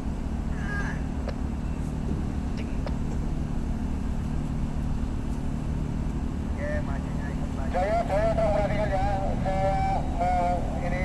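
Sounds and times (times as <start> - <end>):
diesel engines droning: 0.0 - 11.0.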